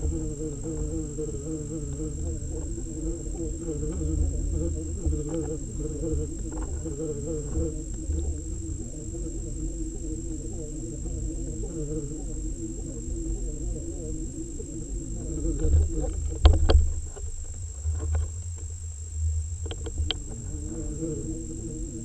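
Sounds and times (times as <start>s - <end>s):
underwater low rumble: 0.0s - 22.0s
wavering hum: 0.0s - 22.0s.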